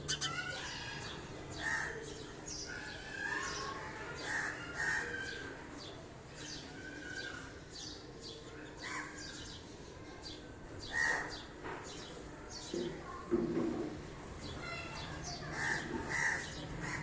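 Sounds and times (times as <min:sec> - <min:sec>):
sparrows chirping: 0:00.0 - 0:13.0, 0:14.2 - 0:17.0.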